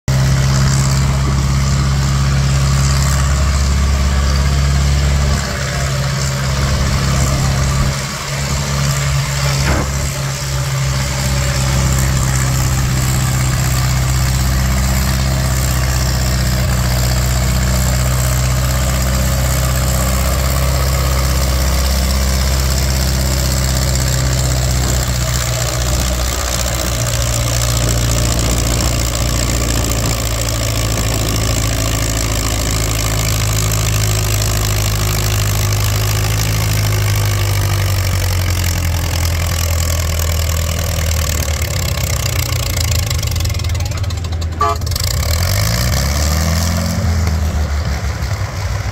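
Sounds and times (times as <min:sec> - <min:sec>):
tractor engine under load: 0:00.0 - 0:48.9.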